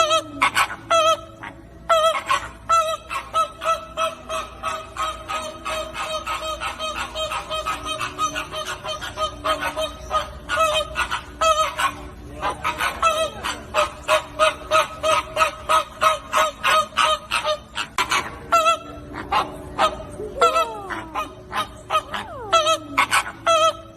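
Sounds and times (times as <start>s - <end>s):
flamingos honking: 0.0s - 23.9s.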